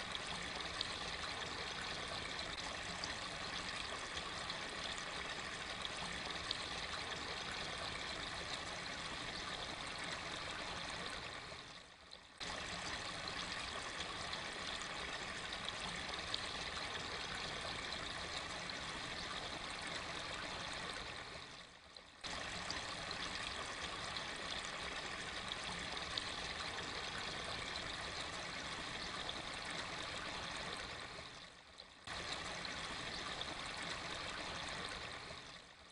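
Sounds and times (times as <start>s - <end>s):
running water trickling and splashing: 0.0s - 35.9s.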